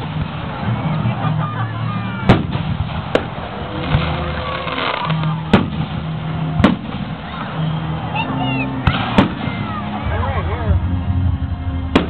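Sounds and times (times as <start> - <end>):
background rumble: 0.0 - 12.0.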